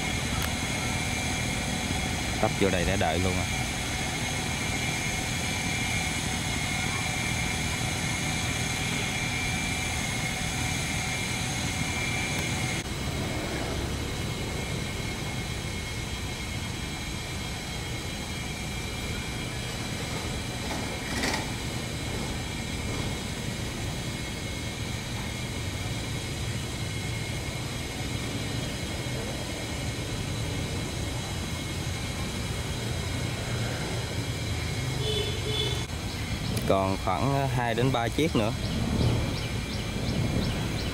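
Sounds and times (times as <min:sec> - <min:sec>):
diesel engine droning: 0:00.0 - 0:40.9
high thin whine: 0:00.0 - 0:40.9.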